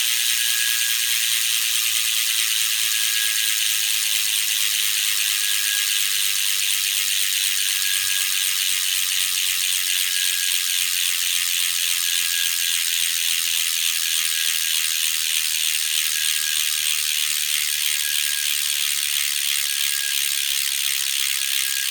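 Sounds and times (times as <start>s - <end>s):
bicycle hub ratchet buzzing: 0.0s - 21.9s.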